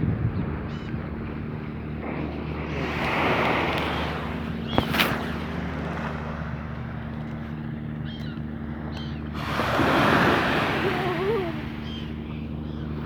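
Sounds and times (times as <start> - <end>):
boat engine running: 0.0 - 13.0
wind and water noise: 0.0 - 13.0.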